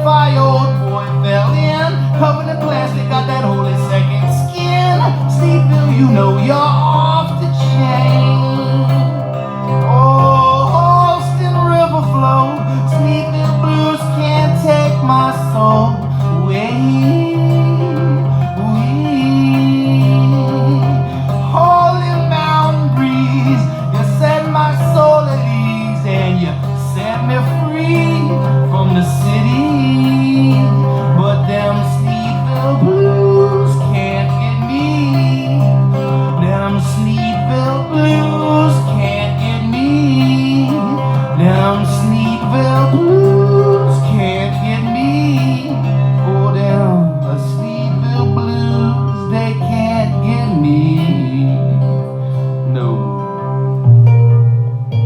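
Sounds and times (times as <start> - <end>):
sliding lead melody: 0.0 - 55.0
steady bass: 0.0 - 55.0
strummed acoustic guitar: 0.0 - 55.0.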